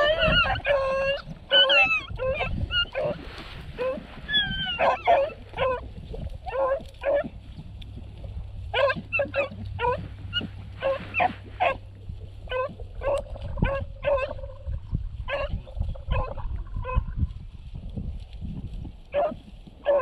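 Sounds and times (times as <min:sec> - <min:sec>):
hounds baying: 0:00.0 - 0:07.6, 0:08.6 - 0:17.2, 0:19.1 - 0:20.0.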